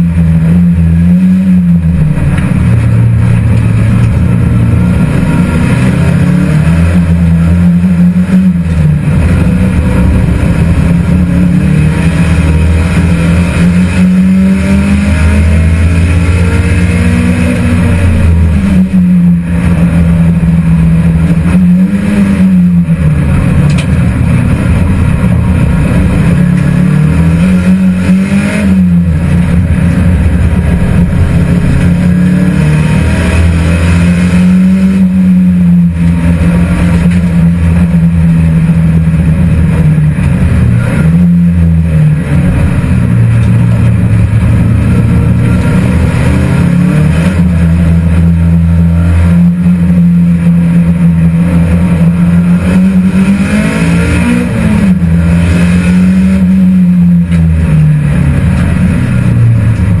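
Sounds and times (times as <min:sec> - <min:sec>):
race car engine running hard: 0:00.0 - 1:00.0.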